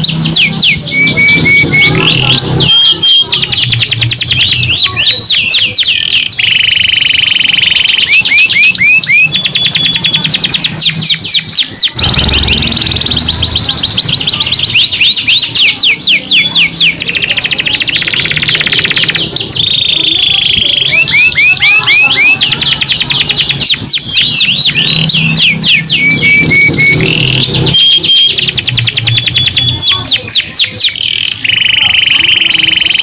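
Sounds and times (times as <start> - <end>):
canaries singing trills: 0.0 - 33.0.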